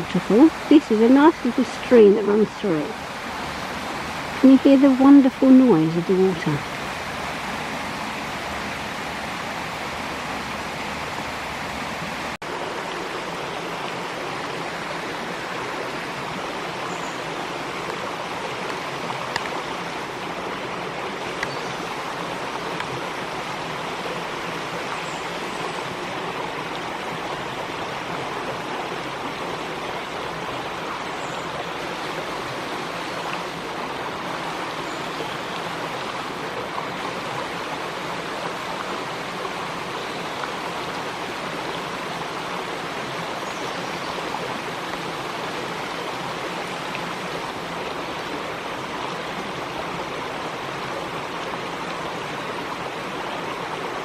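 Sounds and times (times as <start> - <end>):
small stream flowing: 0.0 - 54.0.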